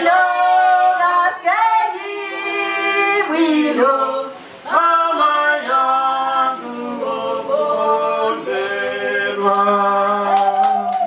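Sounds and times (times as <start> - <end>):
woman singing into a microphone: 0.0 - 11.0.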